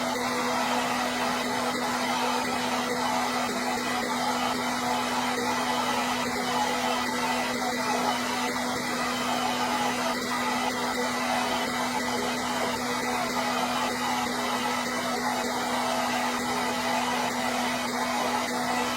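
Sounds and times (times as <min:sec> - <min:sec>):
hair dryer running: 0:00.0 - 0:18.9.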